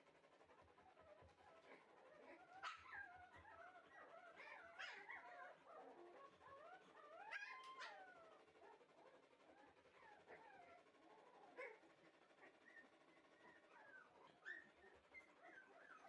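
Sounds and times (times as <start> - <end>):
puppies whining and yipping: 0.3 - 16.0.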